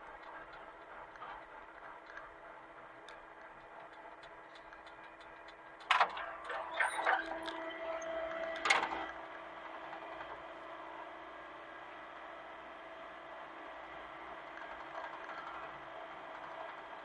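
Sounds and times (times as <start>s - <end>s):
mini excavator running: 0.0s - 17.0s
steady machine whine: 0.0s - 17.0s.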